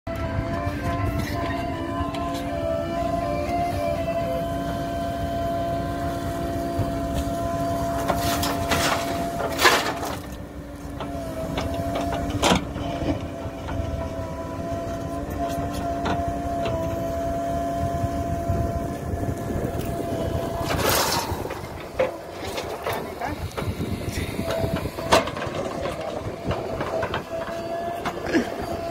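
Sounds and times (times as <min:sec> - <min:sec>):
diesel engine humming: 0:00.1 - 0:28.9.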